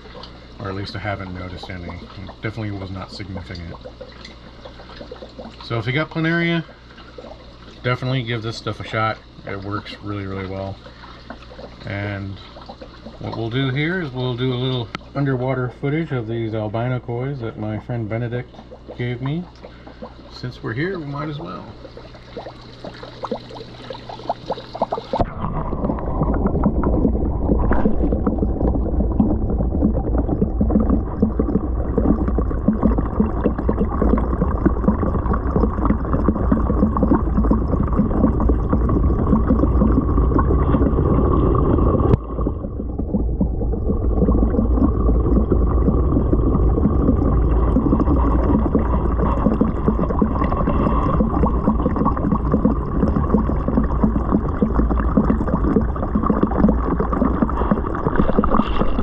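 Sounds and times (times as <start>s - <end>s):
aquarium water gurgling underwater: 0.0s - 59.0s.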